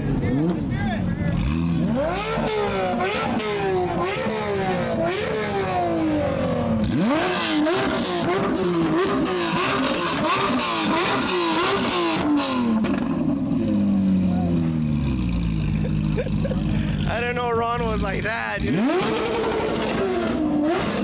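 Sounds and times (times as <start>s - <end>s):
sports car engine revving: 0.0s - 21.0s.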